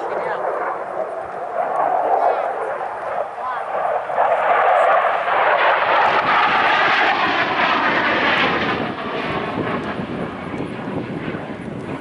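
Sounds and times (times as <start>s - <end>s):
jet fighter roar: 0.0s - 12.0s.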